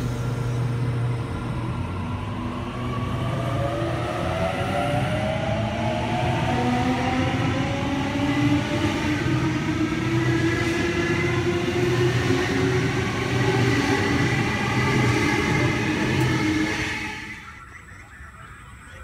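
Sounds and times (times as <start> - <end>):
electric train motors whining: 0.0 - 17.6.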